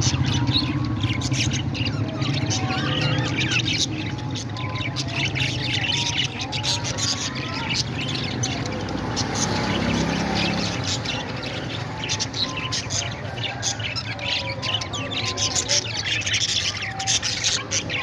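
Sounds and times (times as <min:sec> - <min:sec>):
parrots chirping and squawking: 0:00.0 - 0:18.0.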